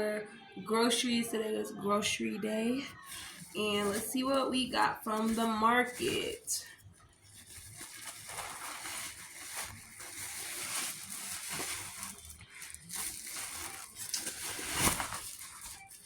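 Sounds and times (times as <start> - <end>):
grocery bags rustling: 2.0 - 16.0.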